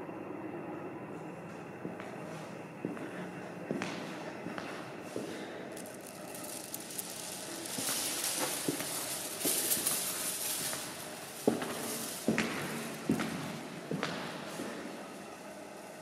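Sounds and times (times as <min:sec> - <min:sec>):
footsteps: 0:01.5 - 0:15.5.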